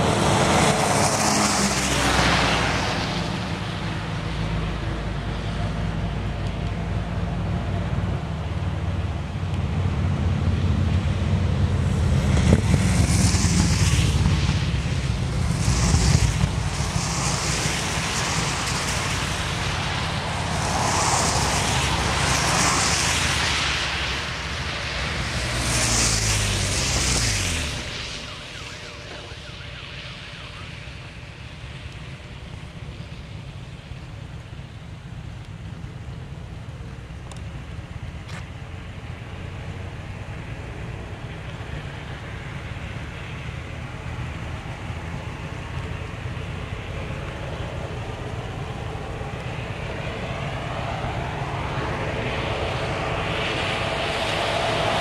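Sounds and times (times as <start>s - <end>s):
vehicle engine rumble: 0.0s - 55.0s
wind and road noise: 0.0s - 55.0s.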